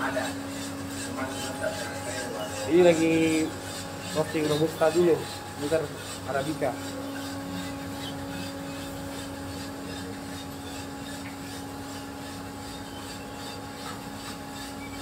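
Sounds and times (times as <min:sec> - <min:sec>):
coffee roasting machine humming: 0:00.0 - 0:15.0.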